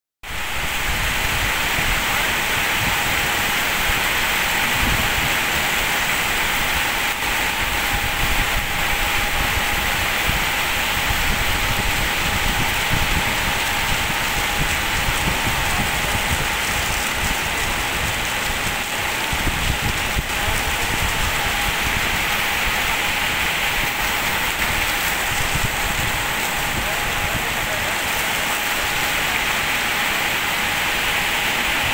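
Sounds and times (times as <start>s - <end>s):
heavy rain falling: 0.2s - 31.9s.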